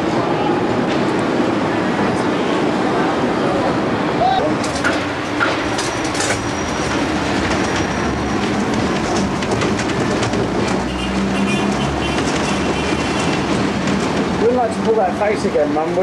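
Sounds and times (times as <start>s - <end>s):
tram wheels on rails: 0.0s - 16.0s.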